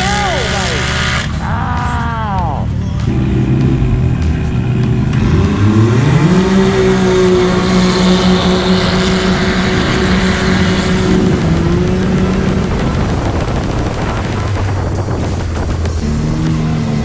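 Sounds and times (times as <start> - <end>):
engine revving at full throttle: 0.0 - 17.0.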